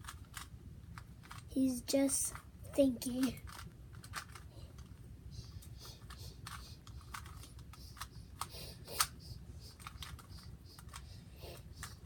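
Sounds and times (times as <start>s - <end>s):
plastic cube clicks and clacks: 0.0s - 1.5s, 2.2s - 5.0s, 5.6s - 12.0s.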